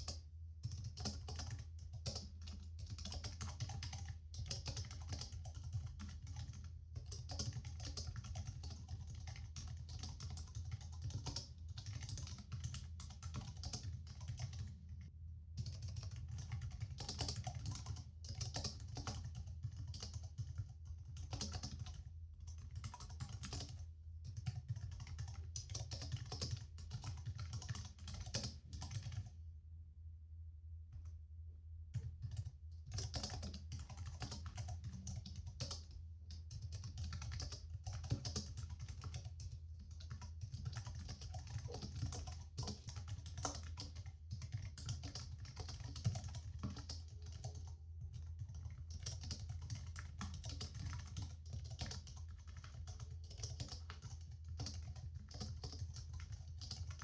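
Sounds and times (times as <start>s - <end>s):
laptop keyboard typing: 0.0s - 14.8s, 15.6s - 29.3s, 32.0s - 57.0s.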